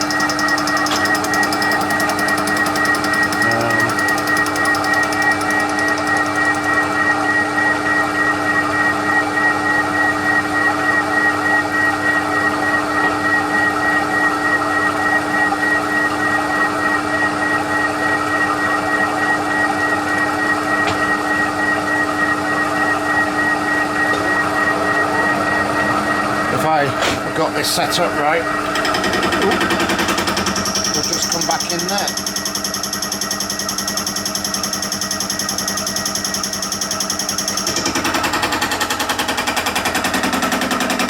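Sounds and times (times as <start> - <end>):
milling machine with pulsing whine: 0.0 - 41.0.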